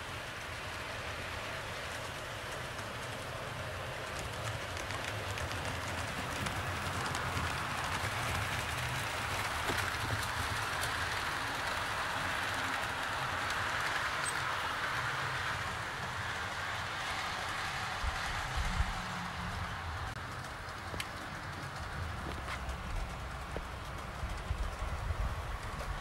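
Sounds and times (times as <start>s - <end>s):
model train wheels rolling on track: 0.0s - 26.0s
faint clicks of wheels: 0.1s - 26.0s.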